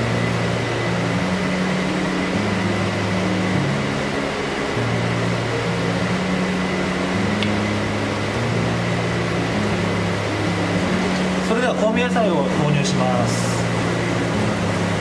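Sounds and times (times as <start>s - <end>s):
background music: 0.0s - 15.0s
rushing fan-like kitchen noise: 0.0s - 15.0s.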